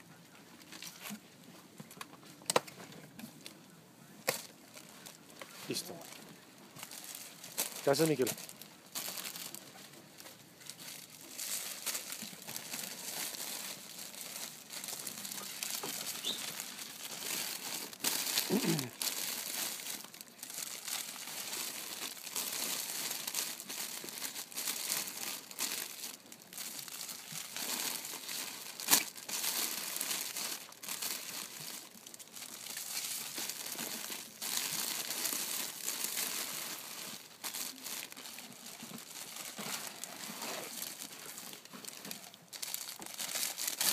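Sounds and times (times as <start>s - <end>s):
plastic sleeves crinkling: 0.6s - 43.9s.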